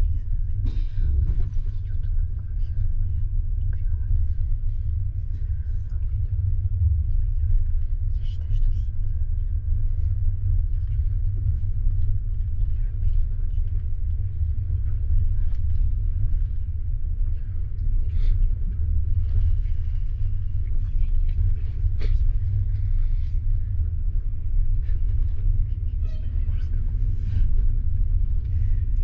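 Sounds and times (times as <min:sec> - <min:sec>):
coach rolling rumble: 0:00.0 - 0:29.0.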